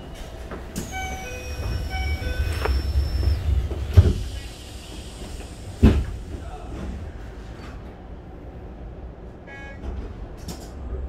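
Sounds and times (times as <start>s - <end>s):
low train rumble: 0.0s - 11.0s.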